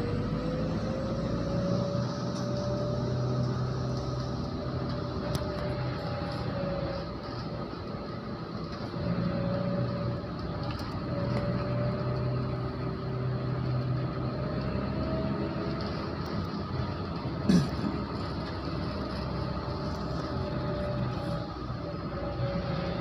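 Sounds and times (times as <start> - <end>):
car engine hum: 0.0 - 23.0.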